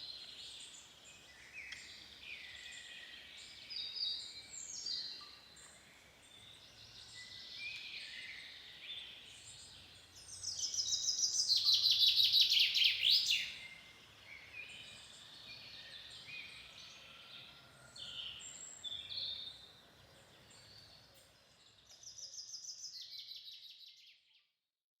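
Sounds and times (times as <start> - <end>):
songbirds chirping and whistling: 0.0 - 24.0.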